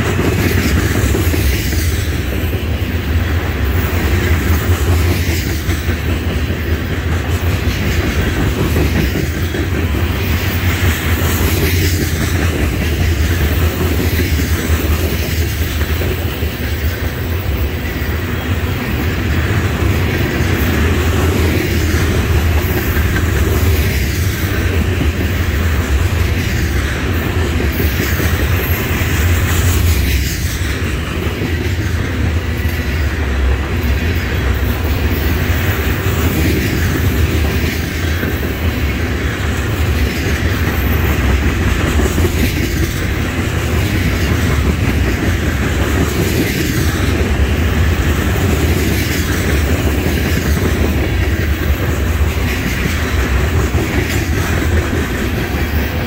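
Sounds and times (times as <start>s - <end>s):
freight train rumbling past: 0.0s - 56.0s
wheels clicking on rails: 0.0s - 56.0s.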